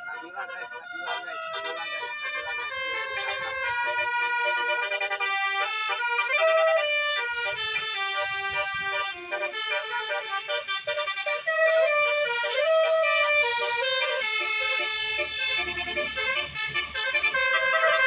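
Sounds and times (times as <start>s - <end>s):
multi-tone bus air horn tune: 0.0s - 18.0s.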